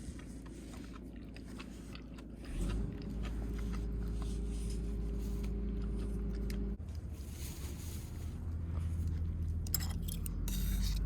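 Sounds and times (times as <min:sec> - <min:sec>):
crunchy chewing: 0:00.0 - 0:11.0
low rumble: 0:00.0 - 0:11.0.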